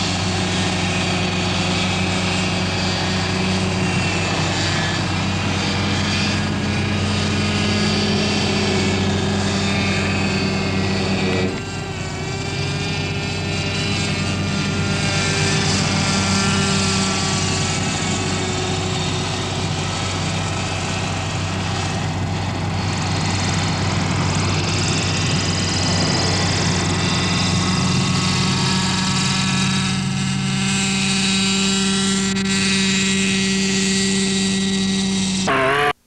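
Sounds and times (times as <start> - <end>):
model helicopter engine and rotor: 0.0 - 36.0.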